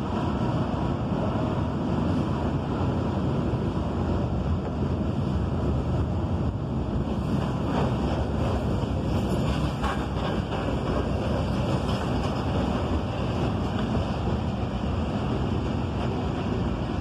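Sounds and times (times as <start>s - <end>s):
freight train rumbling past: 0.0s - 17.0s
wind buffeting microphone: 0.0s - 17.0s.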